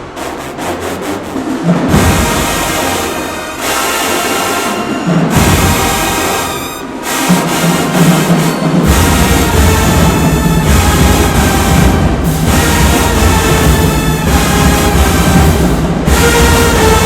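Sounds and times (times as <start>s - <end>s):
brass-heavy music with drums: 0.0s - 17.0s.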